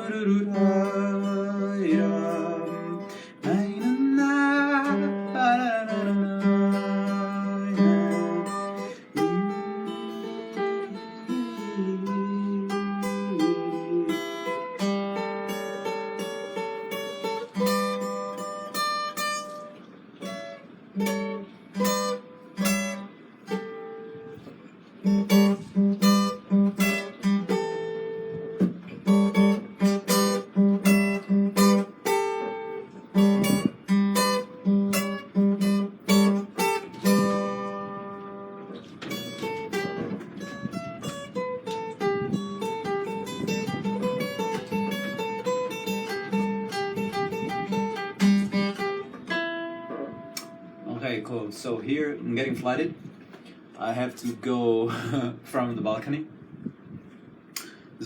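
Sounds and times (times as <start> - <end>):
acoustic guitar picking and strumming: 0.0 - 58.0.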